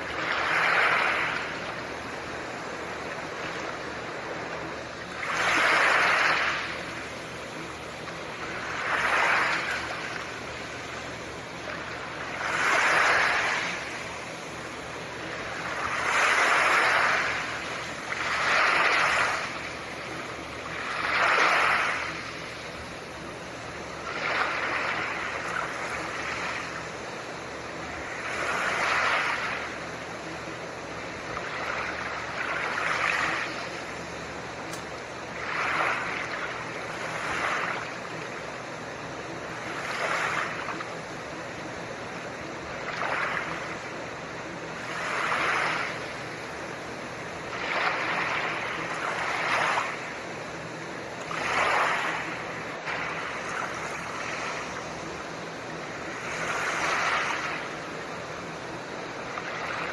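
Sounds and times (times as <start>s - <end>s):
soft ocean waves washing in: 0.0s - 59.9s
steady noise hiss: 0.0s - 59.9s.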